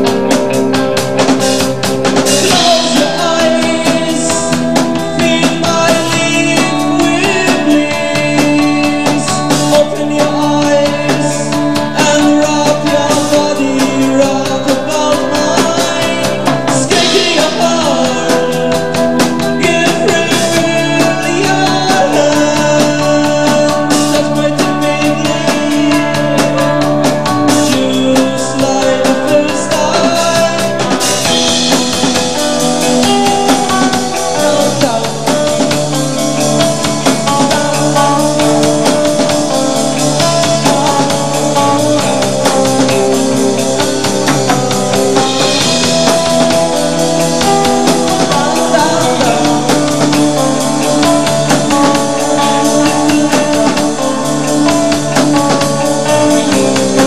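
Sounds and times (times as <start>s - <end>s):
bass guitar: 0.0s - 57.0s
drum kit beat: 0.0s - 57.0s
electric guitar: 0.0s - 57.0s
keyboards: 0.0s - 57.0s.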